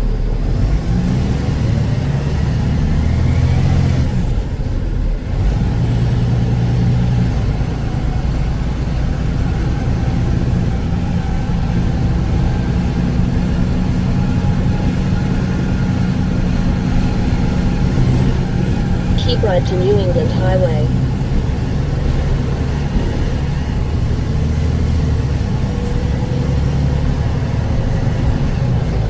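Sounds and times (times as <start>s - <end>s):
diesel truck engine pulling away: 0.0s - 29.0s.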